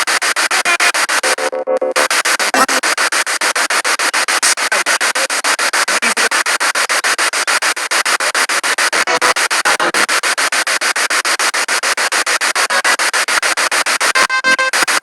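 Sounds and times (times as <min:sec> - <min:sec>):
radio static in rapid bursts: 0:00.0 - 0:15.0.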